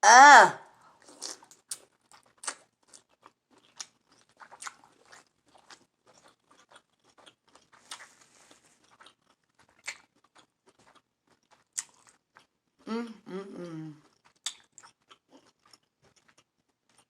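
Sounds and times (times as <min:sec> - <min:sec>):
wet chewing and mouth clicks: 0:01.0 - 0:12.6, 0:13.9 - 0:17.0.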